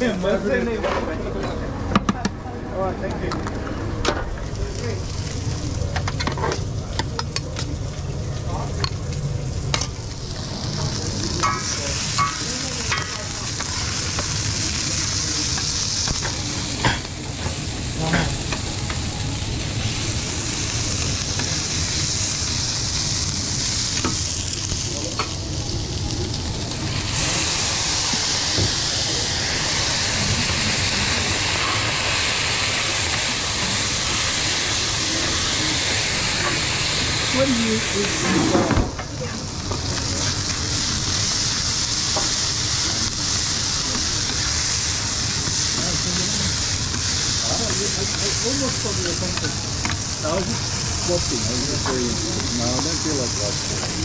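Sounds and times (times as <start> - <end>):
vegetables sizzling on a griddle: 4.3 - 54.0.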